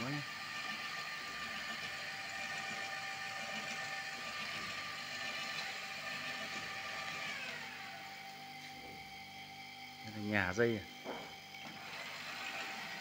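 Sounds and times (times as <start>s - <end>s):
hose reel motor humming: 0.0s - 13.0s.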